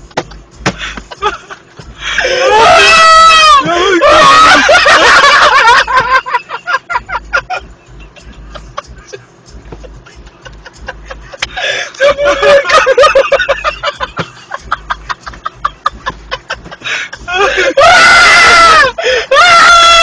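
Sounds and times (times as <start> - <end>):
people laughing: 0.8 - 20.0.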